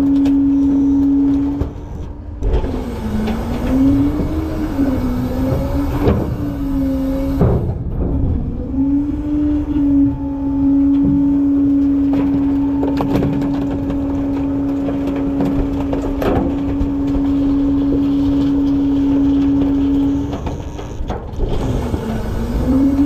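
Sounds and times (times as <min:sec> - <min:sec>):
garbage truck packer whining: 0:00.0 - 0:23.0
trash cracking and snapping: 0:00.0 - 0:23.0.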